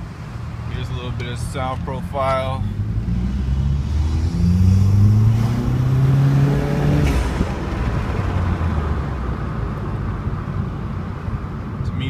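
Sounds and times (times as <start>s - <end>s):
car engine accelerating: 0.8s - 11.5s.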